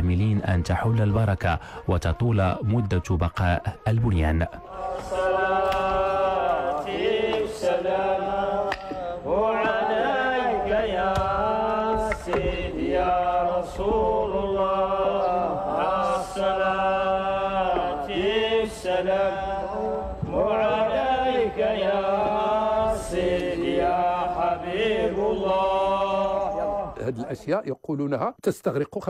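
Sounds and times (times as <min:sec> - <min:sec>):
voices chanting: 0:00.0 - 0:27.8.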